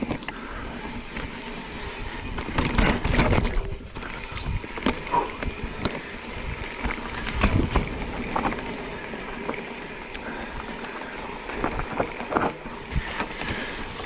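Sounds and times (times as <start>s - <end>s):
bike rattling over rocks: 0.0s - 14.0s
mountain bike on rocky trail: 0.0s - 14.0s.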